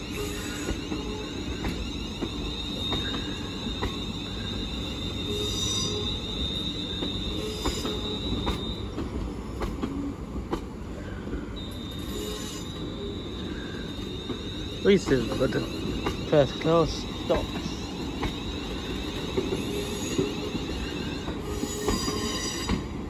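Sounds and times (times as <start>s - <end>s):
low train rumble: 0.0s - 23.0s
train wheels squealing on rails: 0.0s - 23.0s.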